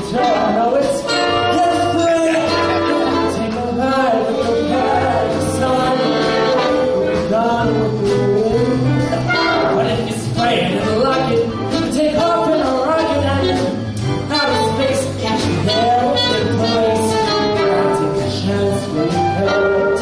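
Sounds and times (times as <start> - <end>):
backing band: 0.0 - 20.0
bass line: 0.0 - 20.0
man singing into a microphone: 0.0 - 20.0.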